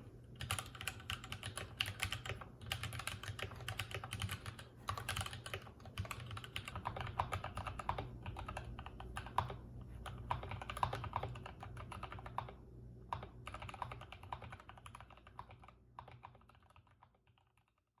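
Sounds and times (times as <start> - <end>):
mechanical keyboard typing: 0.4 - 17.8.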